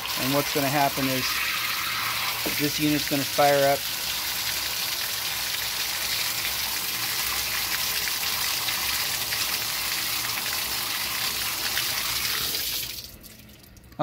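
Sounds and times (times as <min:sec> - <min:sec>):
water gushing from valve: 0:00.0 - 0:14.0.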